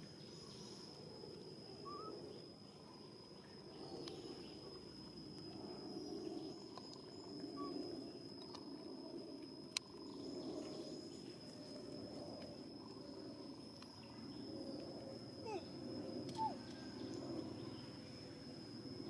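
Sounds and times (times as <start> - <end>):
high-pitched insect whine: 0.0 - 19.0
low background hum: 0.0 - 19.0.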